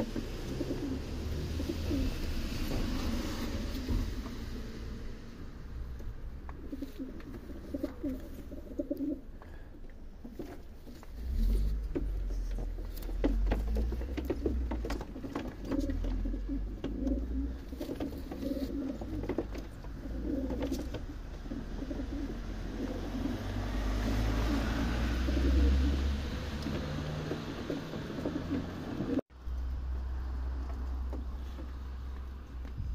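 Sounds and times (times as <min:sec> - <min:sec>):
pigeons cooing: 0:00.0 - 0:04.0, 0:06.5 - 0:29.2.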